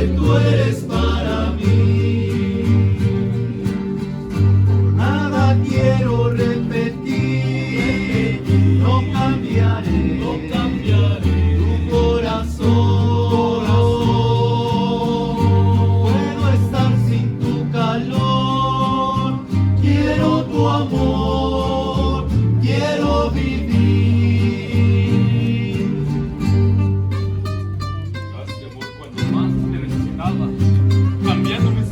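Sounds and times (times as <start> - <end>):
voices singing together: 0.0 - 26.8
bass line: 0.0 - 28.5
acoustic guitars strummed: 0.0 - 31.9.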